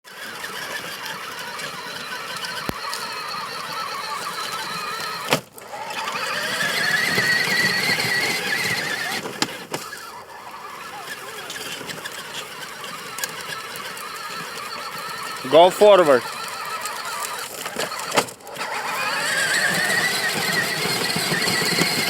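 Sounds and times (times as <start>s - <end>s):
electric motors whining: 0.1s - 22.0s.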